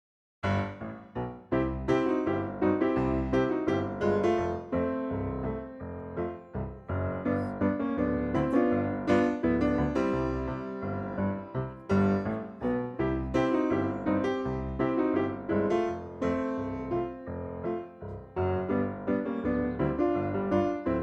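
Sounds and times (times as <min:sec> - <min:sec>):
solo piano melody: 0:00.4 - 0:21.0.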